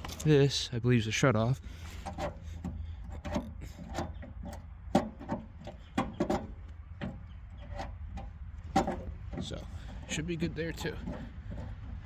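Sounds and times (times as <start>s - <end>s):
throttle linkage clicks and knocks: 2.0s - 12.0s.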